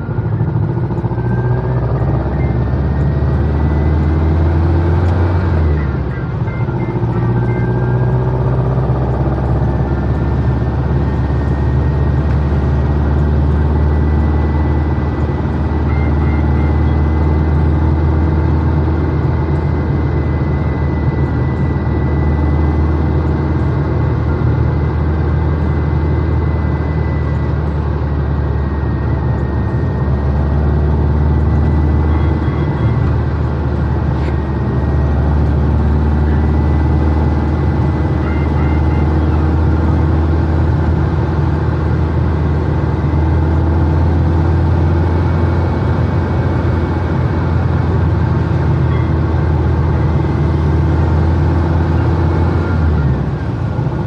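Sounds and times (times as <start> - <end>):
car engine cruising: 0.0 - 54.0.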